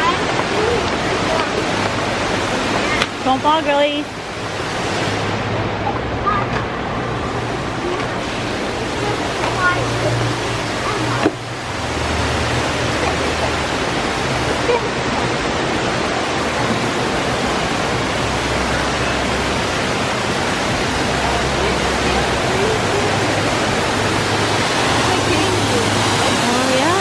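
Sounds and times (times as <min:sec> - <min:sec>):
fountain water splashing: 0:00.0 - 0:27.0.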